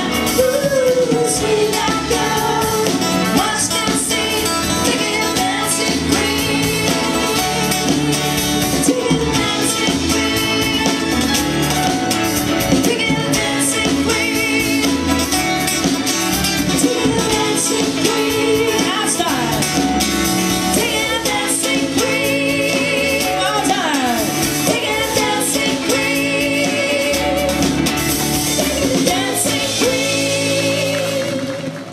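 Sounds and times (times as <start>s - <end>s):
woman singing: 0.0s - 12.0s, 12.6s - 15.9s, 16.5s - 31.8s
acoustic guitar: 0.0s - 31.9s
drums: 0.0s - 31.9s
electric guitar: 0.0s - 31.9s
keyboard: 0.0s - 31.9s
pop-rock band playing: 0.0s - 31.9s.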